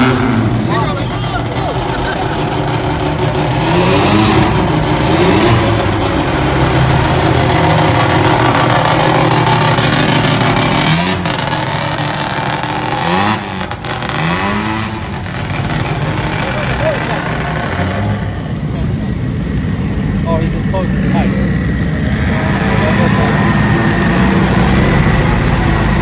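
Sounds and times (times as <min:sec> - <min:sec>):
car engines revving: 0:00.0 - 0:26.0
steady engine hum: 0:00.0 - 0:26.0.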